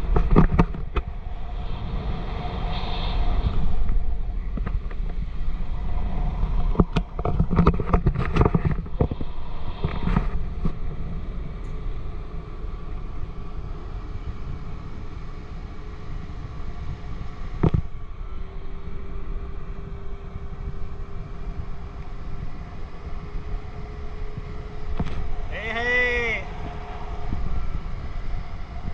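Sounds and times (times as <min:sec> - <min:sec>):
wind buffeting microphone: 0:00.0 - 0:28.9
motorboat engine running: 0:04.4 - 0:28.9.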